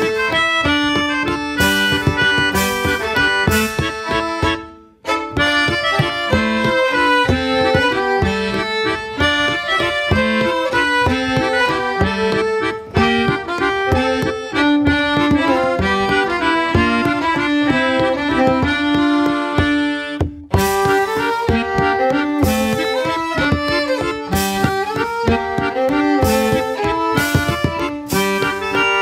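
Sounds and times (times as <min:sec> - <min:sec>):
accordion music: 0:00.0 - 0:29.0.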